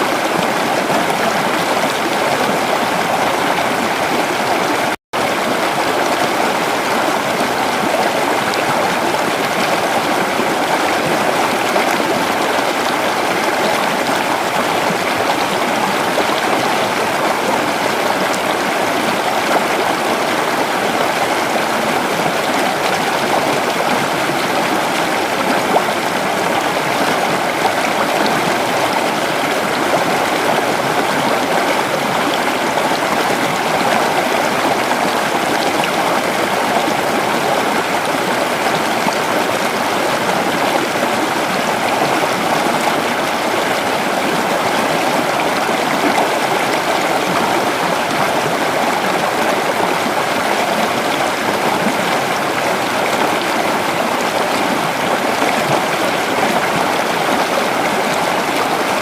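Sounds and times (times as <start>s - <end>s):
creek water flowing over rocks: 0.0s - 59.0s.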